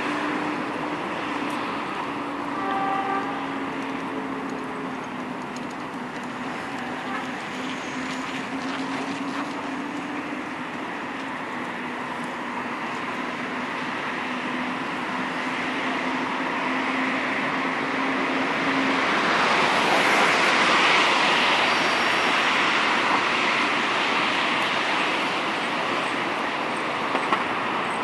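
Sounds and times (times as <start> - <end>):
road traffic rush: 0.0 - 28.0.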